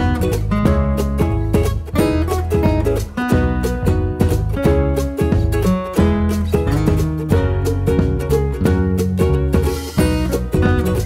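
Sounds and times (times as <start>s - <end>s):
bass line: 0.0s - 11.0s
plucked acoustic guitar: 0.0s - 11.0s.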